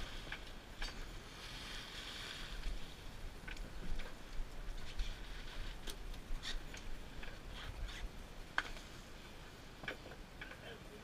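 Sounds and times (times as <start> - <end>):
low rumble and hiss on a boat: 0.0 - 11.0.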